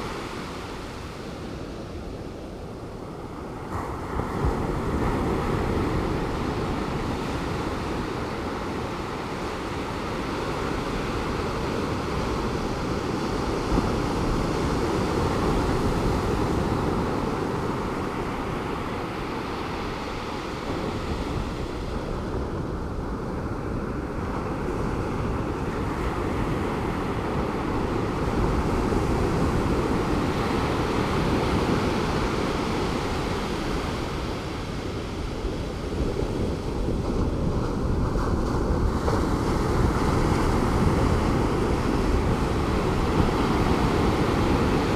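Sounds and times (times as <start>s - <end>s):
surf breaking on a beach: 0.0s - 44.9s
wind on the microphone: 0.0s - 44.9s.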